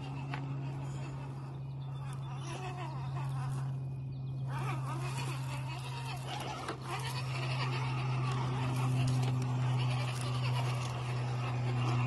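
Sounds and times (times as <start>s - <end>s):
electric motors whining: 0.0s - 12.0s
steady low hum: 0.0s - 12.0s.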